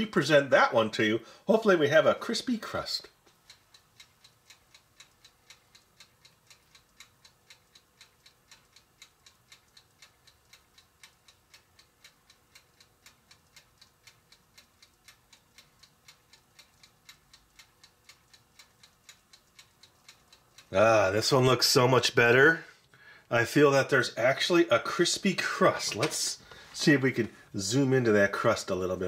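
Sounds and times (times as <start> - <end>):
mechanical timer ticking: 0.0 - 29.0.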